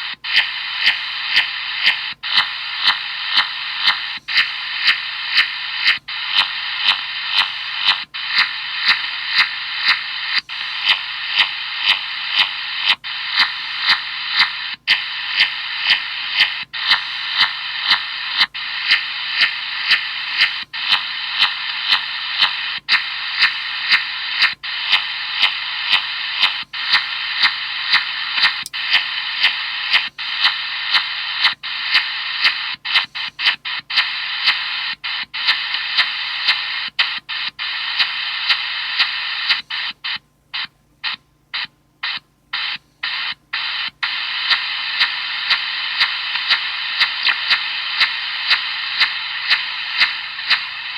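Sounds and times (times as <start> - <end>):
pulsing radio static hiss: 0.0 - 50.9.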